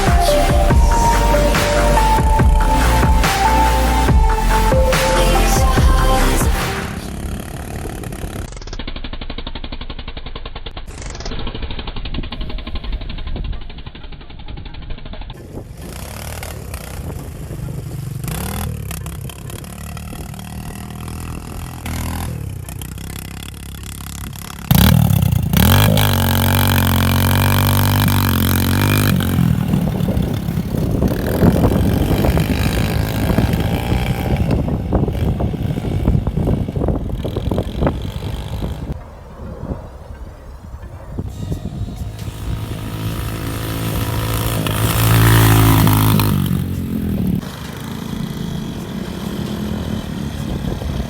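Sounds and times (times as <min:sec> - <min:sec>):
off-road vehicle engines revving: 0:00.0 - 0:51.0.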